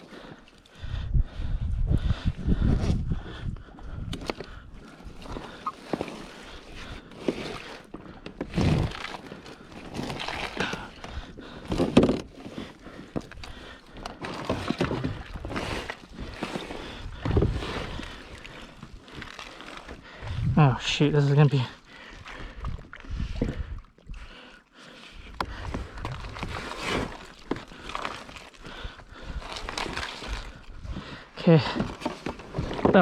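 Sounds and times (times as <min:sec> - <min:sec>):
water sloshing against kayak: 0:03.6 - 0:33.0.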